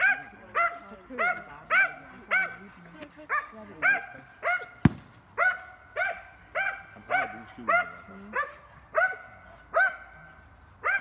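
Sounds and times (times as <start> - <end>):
dog barking: 0.0 - 2.6, 3.3 - 4.8, 5.4 - 11.0.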